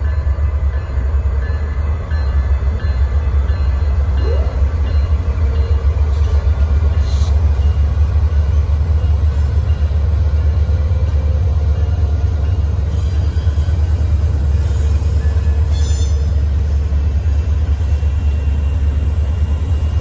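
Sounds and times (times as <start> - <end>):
diesel locomotive engines rumbling: 0.0 - 20.0.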